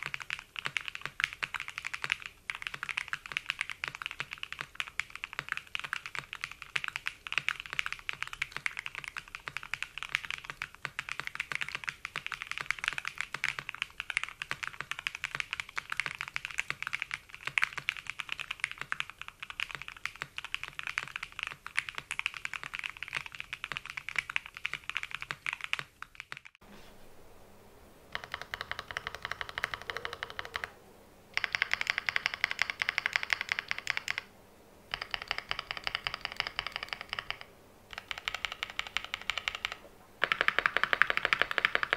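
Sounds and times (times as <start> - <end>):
mechanical keyboard typing: 0.0 - 26.6, 28.1 - 30.8, 31.4 - 34.3, 34.9 - 41.9.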